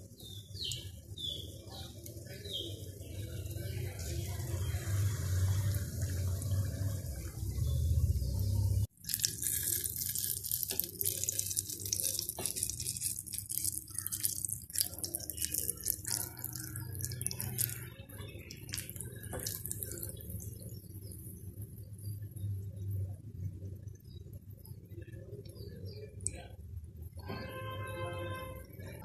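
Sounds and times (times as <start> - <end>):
batter deep-frying in oil: 0.0 - 29.0.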